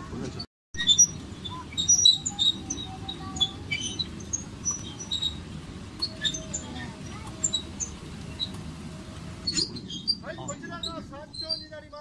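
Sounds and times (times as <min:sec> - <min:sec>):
high-pitched squeaks and chirps: 0:00.8 - 0:08.6, 0:09.4 - 0:12.0
miniature train rumbling: 0:00.9 - 0:12.0.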